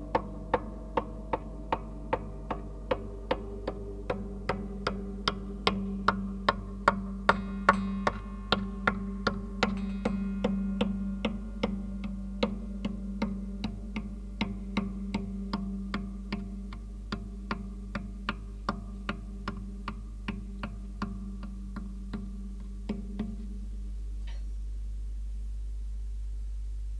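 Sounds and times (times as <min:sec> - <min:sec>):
light ticking taps: 0:00.0 - 0:23.6
steady low hum: 0:00.0 - 0:26.9.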